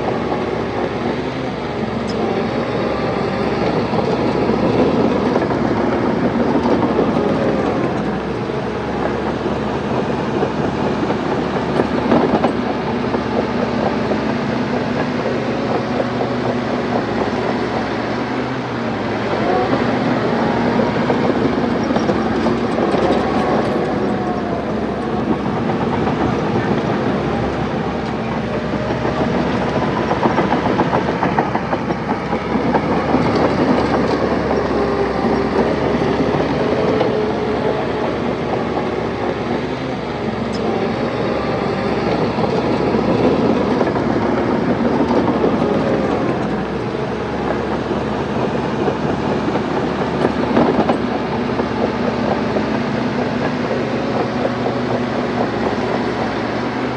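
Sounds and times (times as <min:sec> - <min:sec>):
bulldozer diesel engine under load: 0:00.0 - 0:56.9
steel tracks clanking: 0:00.0 - 0:56.9.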